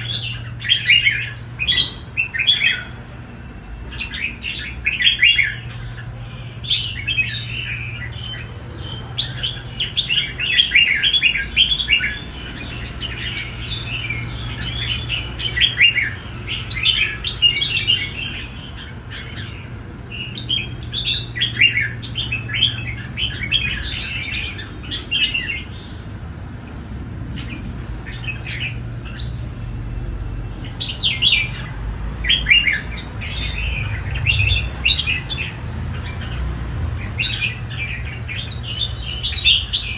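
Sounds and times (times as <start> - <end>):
bird singing chirping phrases: 0.0 - 26.6, 27.2 - 39.9.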